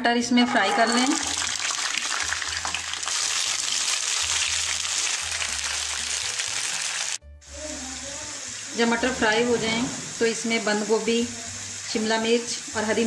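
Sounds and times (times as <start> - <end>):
peas sizzling in oil: 0.5 - 13.0.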